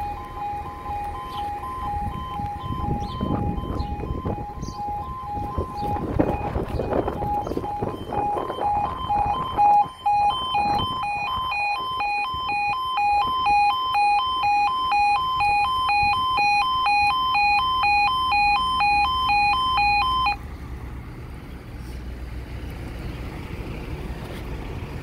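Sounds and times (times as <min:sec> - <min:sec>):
two-tone level crossing alarm: 0:00.0 - 0:20.4.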